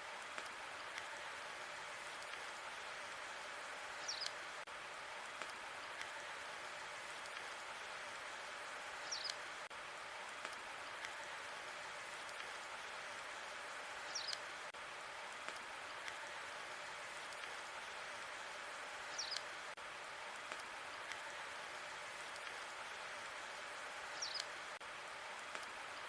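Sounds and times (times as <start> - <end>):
logs burning in a fireplace: 0.1 - 3.1, 4.2 - 18.3, 19.4 - 23.4, 24.4 - 25.8.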